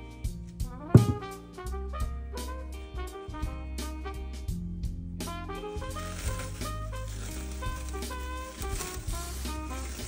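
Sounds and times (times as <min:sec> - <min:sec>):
jazz music with horns and bass: 0:00.0 - 0:10.0.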